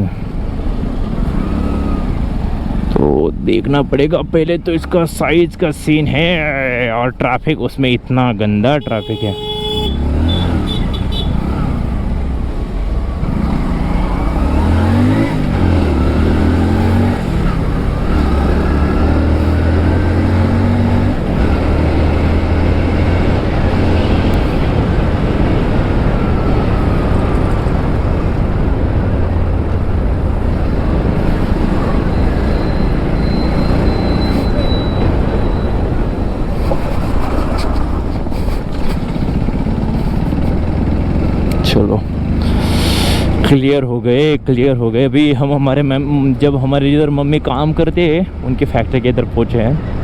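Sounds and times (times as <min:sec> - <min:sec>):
motorcycle engine: 0:00.0 - 0:06.8, 0:09.0 - 0:43.6
wind and road noise: 0:00.0 - 0:50.0.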